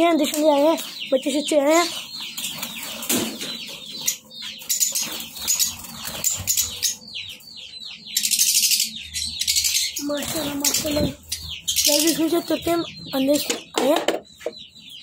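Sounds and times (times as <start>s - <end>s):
harsh bird chatter: 0.0s - 15.0s
small birds chirping: 0.0s - 15.0s.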